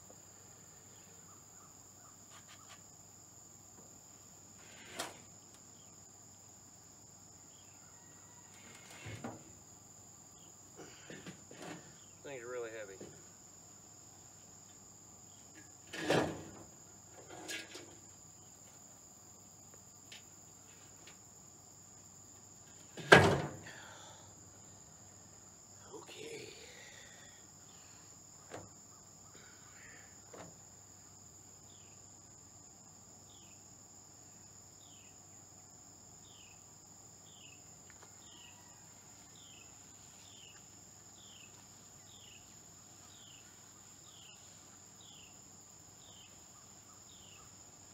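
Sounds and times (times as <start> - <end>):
insect drone: 0.0 - 47.9.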